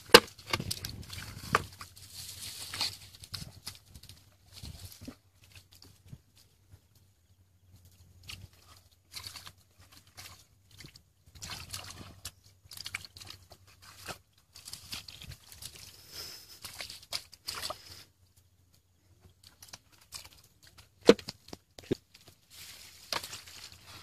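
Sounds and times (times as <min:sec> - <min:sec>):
muddy water sloshing and splashing: 0:00.0 - 0:24.0.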